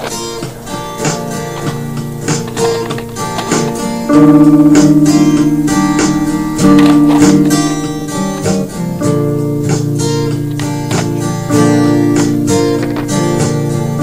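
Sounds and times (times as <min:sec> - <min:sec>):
surf rock guitar music: 0:00.0 - 0:14.0.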